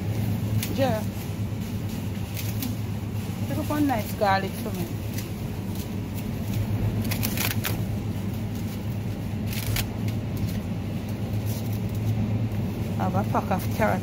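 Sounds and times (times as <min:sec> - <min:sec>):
refrigeration hum: 0:00.0 - 0:14.0.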